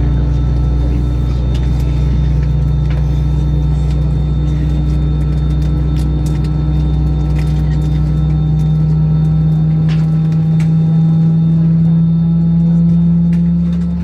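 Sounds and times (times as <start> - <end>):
airplane cabin rumble and hum: 0.0 - 14.0.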